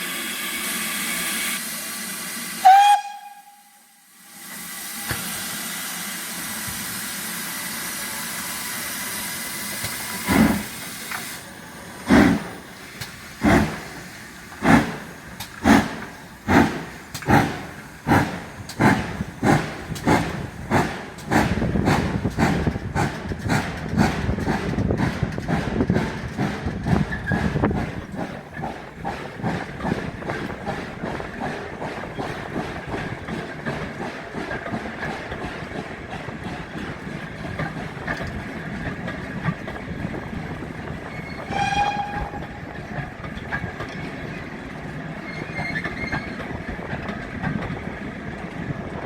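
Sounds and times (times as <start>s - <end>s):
steam hissing: 0.0s - 39.4s
steam locomotive exhaust chuffs: 0.0s - 49.0s.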